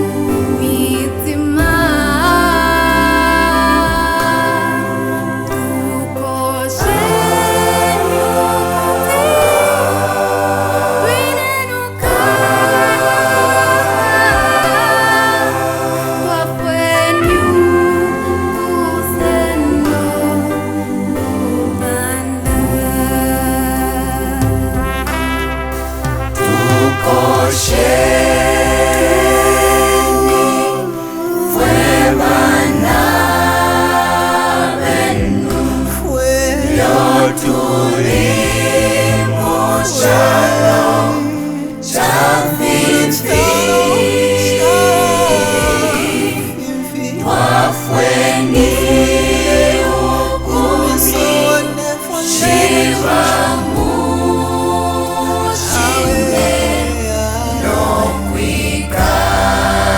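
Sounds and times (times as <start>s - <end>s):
gospel choir singing: 0.0s - 59.9s
sustained low bass notes: 0.0s - 59.9s.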